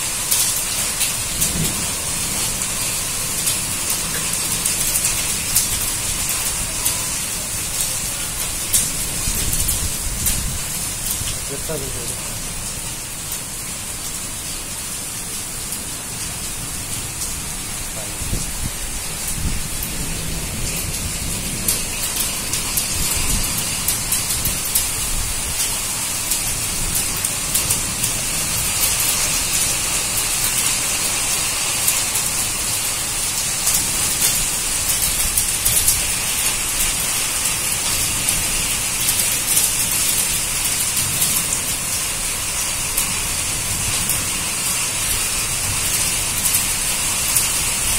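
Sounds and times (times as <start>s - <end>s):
hailstones ticking on hard surfaces: 0.0s - 47.9s
heavy rain hissing: 0.0s - 47.9s.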